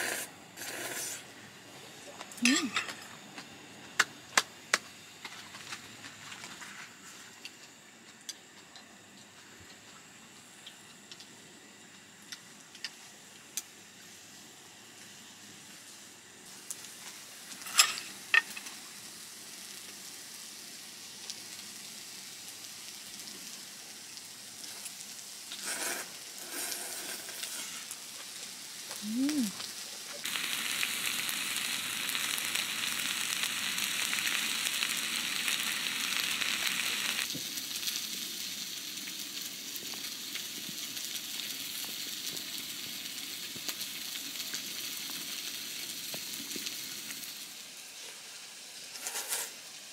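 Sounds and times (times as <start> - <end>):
food sizzling in a pan: 0.0 - 3.2, 4.6 - 49.9.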